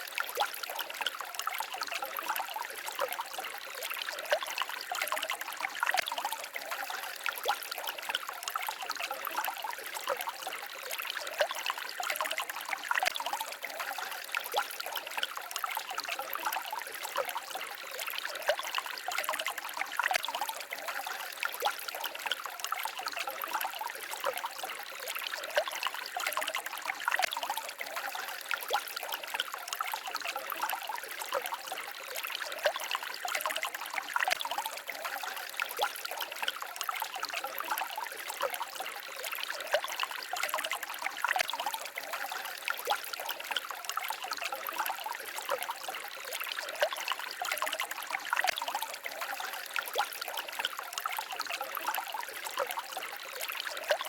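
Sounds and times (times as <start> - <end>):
stream babbling and trickling: 0.0 - 54.0.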